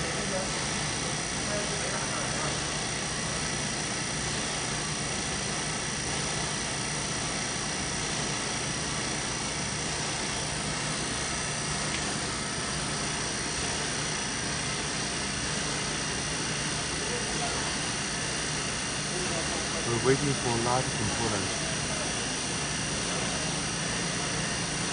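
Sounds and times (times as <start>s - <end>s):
distillation machinery hissing drone: 0.0s - 24.9s.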